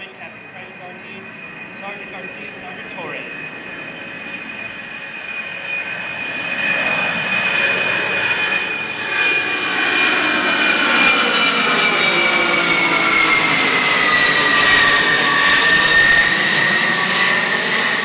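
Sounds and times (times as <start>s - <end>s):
jet engines whining on flyover: 0.0s - 18.0s.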